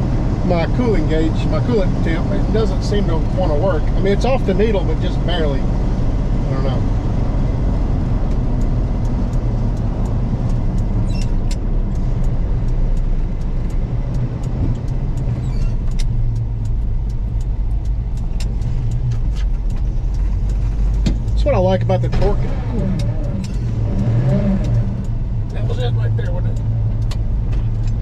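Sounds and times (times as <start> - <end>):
engine drone: 0.0 - 28.0
road and wind noise: 0.0 - 28.0
light ticks: 1.5 - 28.0.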